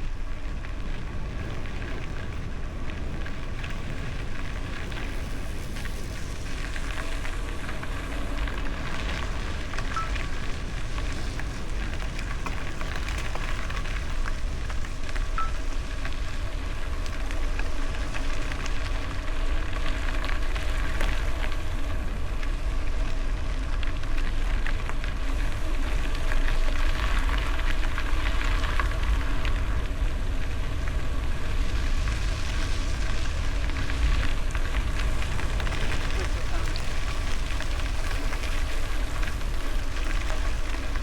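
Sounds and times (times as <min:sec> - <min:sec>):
bicycle tyres crackling over gravel: 0:00.0 - 0:41.0
wind rumbling on microphone: 0:00.0 - 0:41.0.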